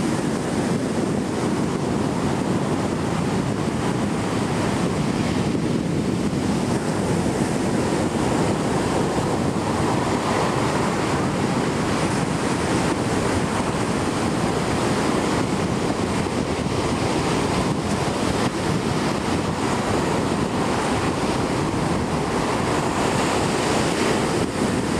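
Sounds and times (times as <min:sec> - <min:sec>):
ocean surf breaking: 0:00.0 - 0:24.9
wind buffeting microphone: 0:00.0 - 0:24.9.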